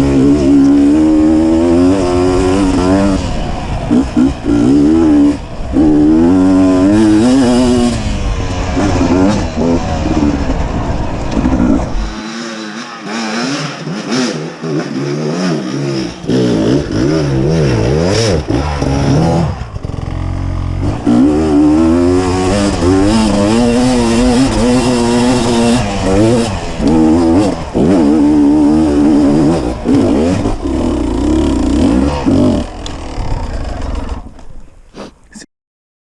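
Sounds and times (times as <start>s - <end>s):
two-stroke dirt bike engine revving: 0.0s - 34.5s.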